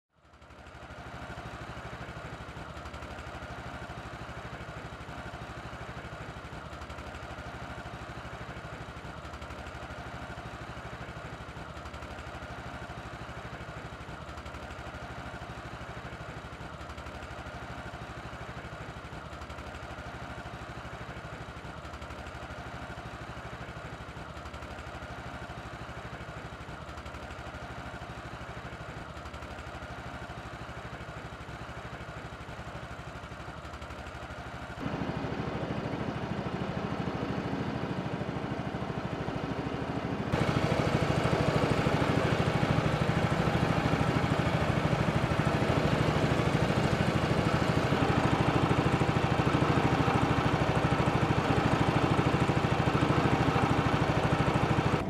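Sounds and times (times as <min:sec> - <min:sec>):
engine running steadily: 0:00.2 - 0:55.0.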